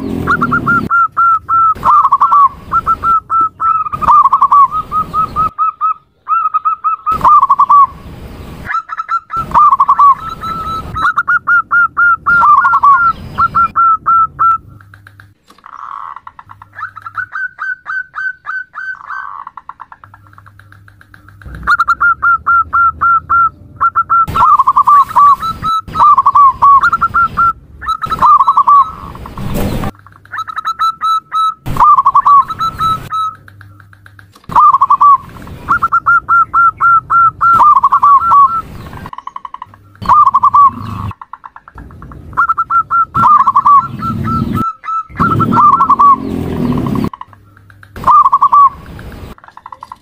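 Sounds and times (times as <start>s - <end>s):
dove calling staccato notes: 0.0s - 7.9s, 8.6s - 50.0s.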